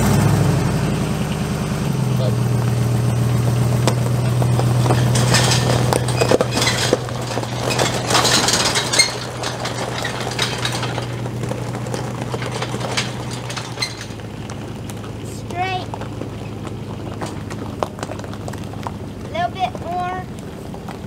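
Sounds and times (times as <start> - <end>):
car engine running: 0.0 - 21.0
trailer clinking and rattling: 0.0 - 21.0.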